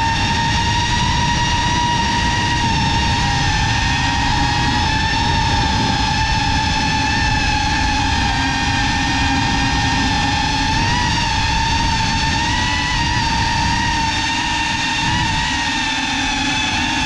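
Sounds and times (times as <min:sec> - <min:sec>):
drone motors whining: 0:00.0 - 0:17.0
propeller wash and wind: 0:00.0 - 0:17.0.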